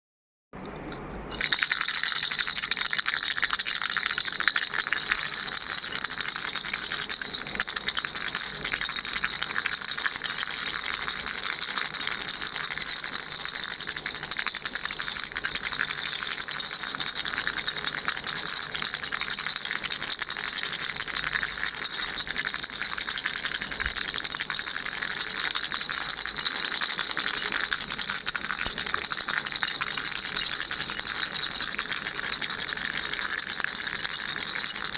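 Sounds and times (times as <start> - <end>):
baby's toy rattle shaken: 0.6 - 34.9.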